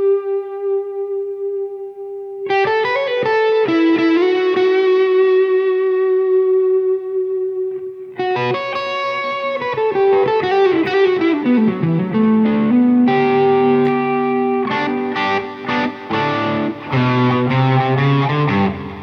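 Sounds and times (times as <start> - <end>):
overdriven electric guitar: 0.0 - 19.0.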